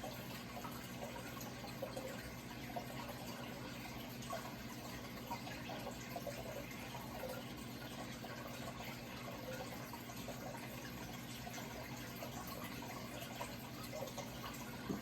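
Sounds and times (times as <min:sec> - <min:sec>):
water trickling and bubbling: 0:00.0 - 0:15.0.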